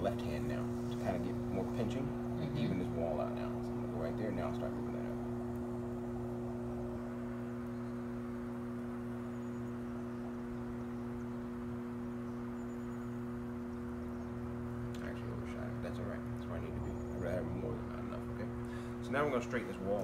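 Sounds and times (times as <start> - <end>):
potter's wheel motor hum: 0.0 - 20.0.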